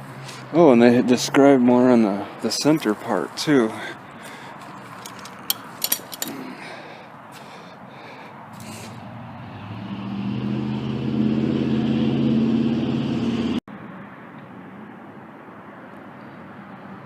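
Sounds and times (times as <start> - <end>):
road vehicle engine approaching: 0.0 - 17.0.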